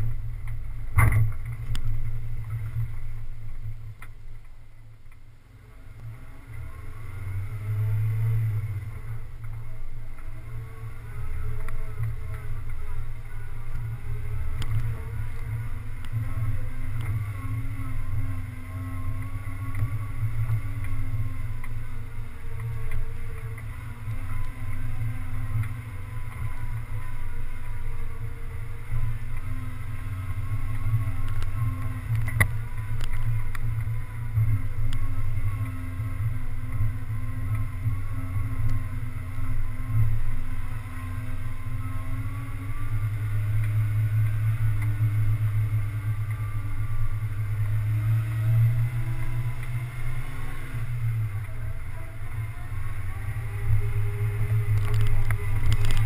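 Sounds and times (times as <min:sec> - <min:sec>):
vehicle engine driving: 0:00.0 - 0:56.0
wind rumble on microphone: 0:00.0 - 0:56.0.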